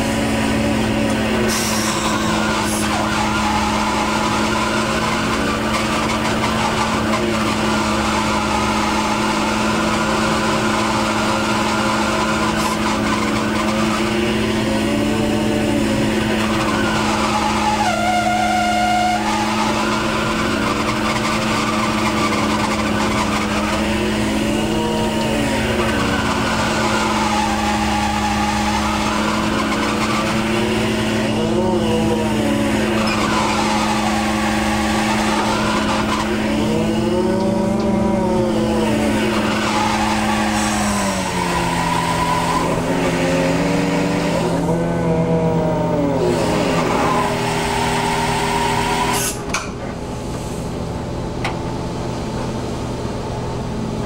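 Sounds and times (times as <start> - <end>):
boat engine and machinery hum: 0.0 - 54.0
machinery whine: 0.0 - 54.0.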